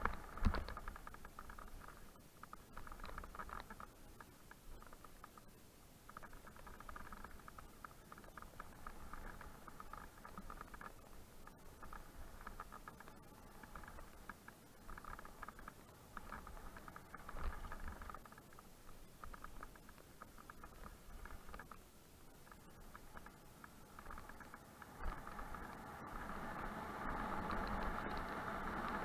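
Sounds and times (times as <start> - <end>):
mountain bike rattling and ticking: 0.0 - 5.4, 6.1 - 21.8, 22.4 - 29.0
low rumble of tyres on dirt: 0.0 - 29.0.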